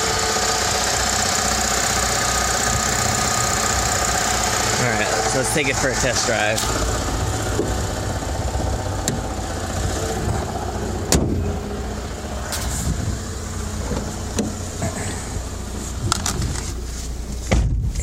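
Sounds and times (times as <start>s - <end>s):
car engine low hum: 0.0s - 18.0s.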